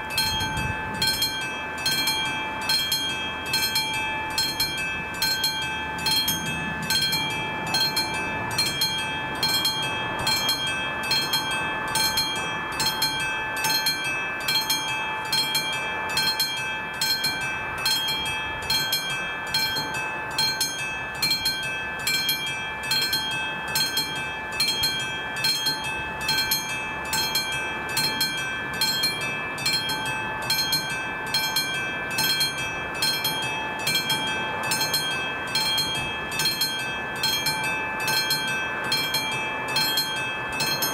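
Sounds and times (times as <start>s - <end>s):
level crossing warning bell ringing: 0.0s - 40.9s.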